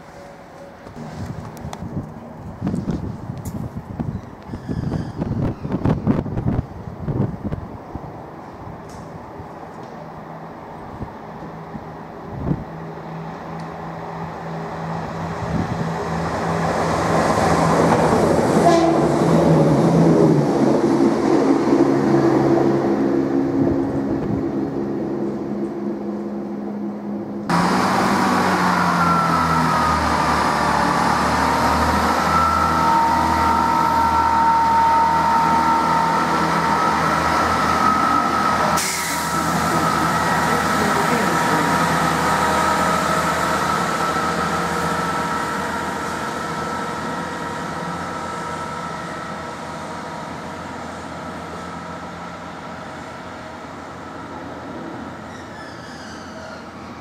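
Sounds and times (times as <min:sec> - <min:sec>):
diesel train engine drone: 0:00.0 - 0:57.0
diesel train engine humming: 0:00.0 - 0:57.0
high train whine: 0:00.0 - 0:57.0.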